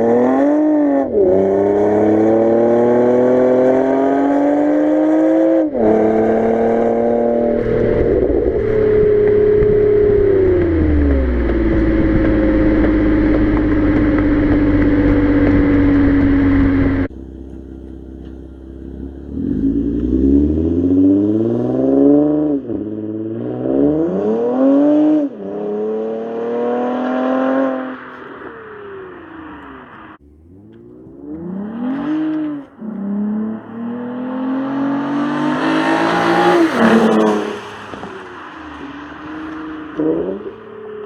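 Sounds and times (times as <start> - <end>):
car engine accelerating: 0.0 - 41.0
road and wind noise: 0.0 - 41.0.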